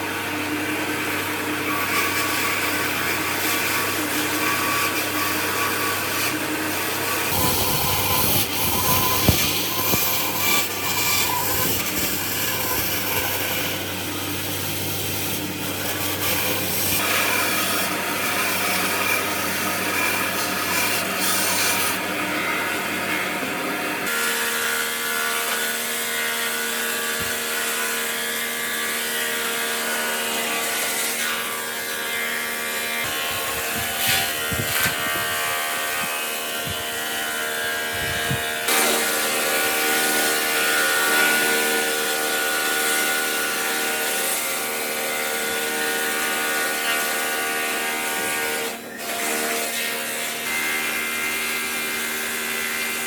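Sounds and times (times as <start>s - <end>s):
power tool motor grinding wood: 0.0s - 53.0s.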